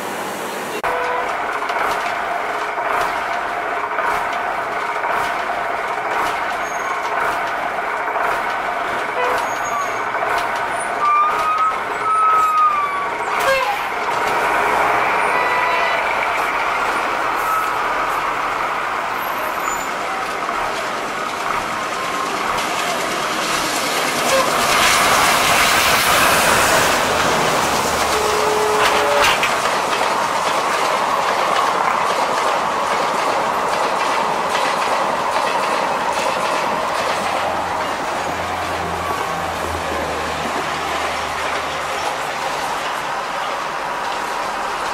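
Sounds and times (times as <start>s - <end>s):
diesel locomotive passing: 0.0s - 44.9s
train wheels rumbling and rattling: 0.5s - 44.9s.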